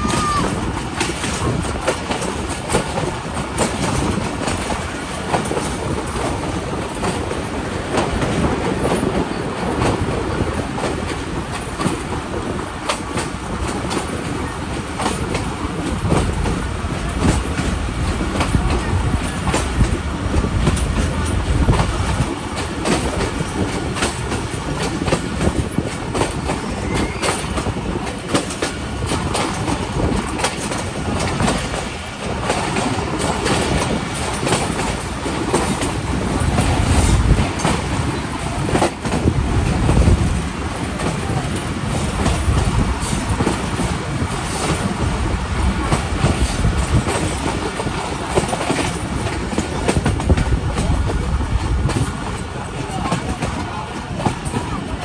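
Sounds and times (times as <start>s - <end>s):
train rumbling on track: 0.0s - 55.0s
wheels clattering over rail joints: 0.0s - 55.0s.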